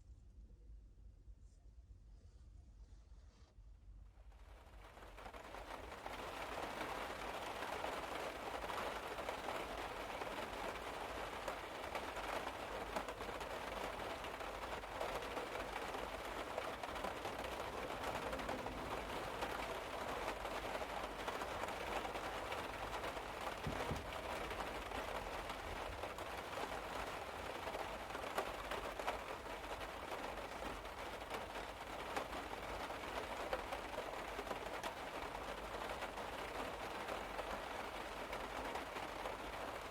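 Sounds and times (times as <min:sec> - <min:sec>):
rain on a car roof: 0:04.2 - 0:39.9.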